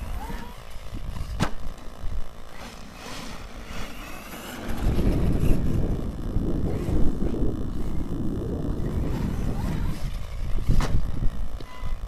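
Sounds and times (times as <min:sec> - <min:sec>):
electric motor whine: 0:00.0 - 0:12.0
wind rumble on microphone: 0:00.0 - 0:12.0.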